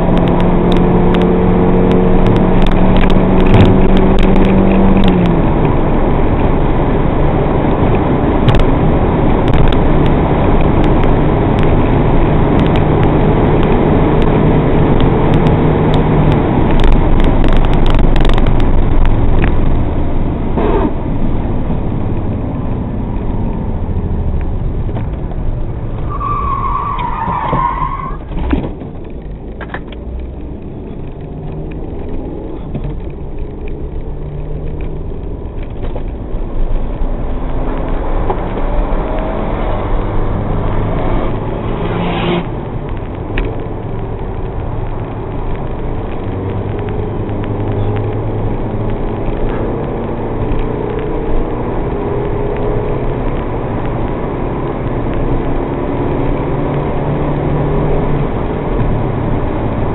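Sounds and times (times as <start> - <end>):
car engine running hard: 0.0 - 59.9
wind and road noise in cabin: 0.0 - 59.9.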